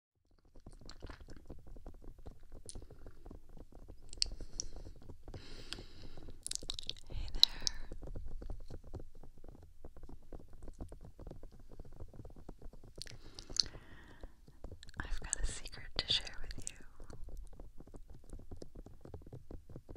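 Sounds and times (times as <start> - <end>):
fingertips scratching microphone: 0.7 - 19.9
hissy rubbing on microphone: 1.4 - 19.7.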